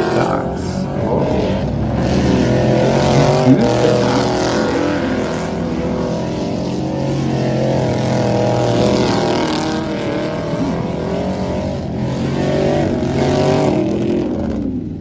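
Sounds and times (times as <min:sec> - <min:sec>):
truck engines with loud exhausts: 0:00.0 - 0:15.0.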